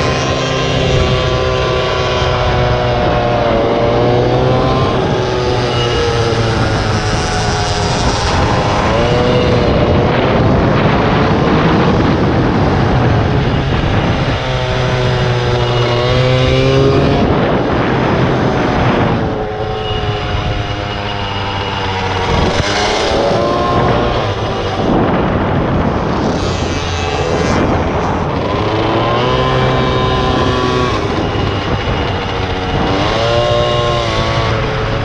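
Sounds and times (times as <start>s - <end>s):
motorbike engine revving: 0.0s - 35.0s
steady rush of noise: 0.0s - 35.0s.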